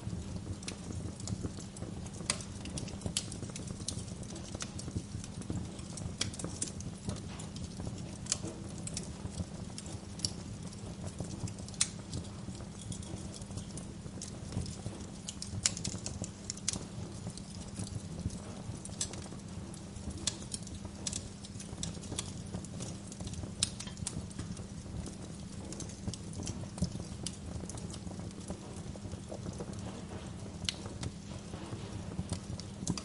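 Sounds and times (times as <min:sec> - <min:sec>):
low rumble of flames: 0:00.0 - 0:33.0
wood fire pops and snaps: 0:00.0 - 0:33.0.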